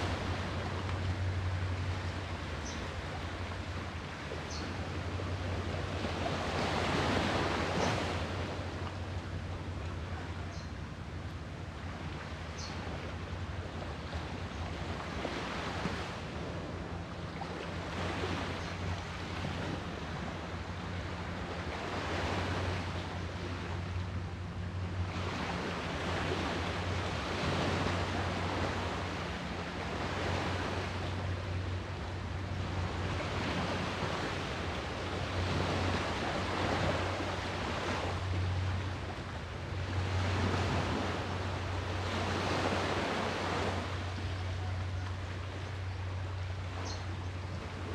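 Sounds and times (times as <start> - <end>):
sea waves washing onto shore: 0.0 - 47.9.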